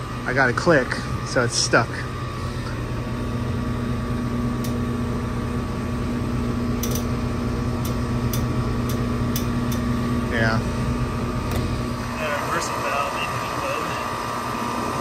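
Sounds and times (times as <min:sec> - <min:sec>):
compressor humming: 0:00.0 - 0:15.0.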